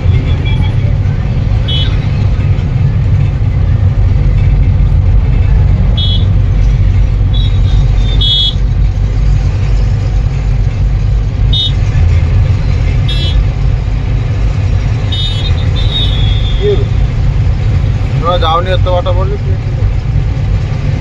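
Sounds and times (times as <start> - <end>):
truck rumbling on highway: 0.0 - 21.0.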